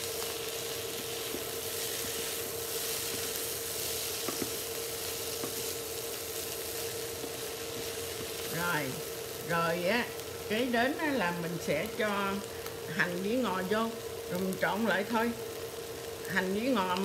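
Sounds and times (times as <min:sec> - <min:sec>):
faint steady hum: 0:00.0 - 0:17.0
rice sizzling in a skillet: 0:00.0 - 0:17.0.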